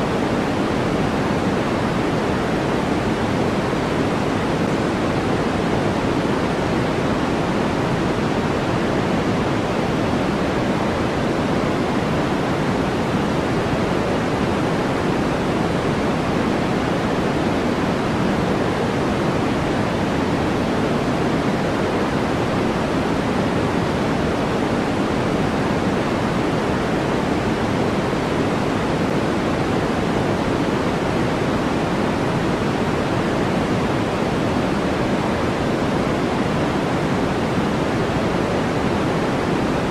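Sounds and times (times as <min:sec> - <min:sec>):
steady noise hiss: 0:00.0 - 0:39.9.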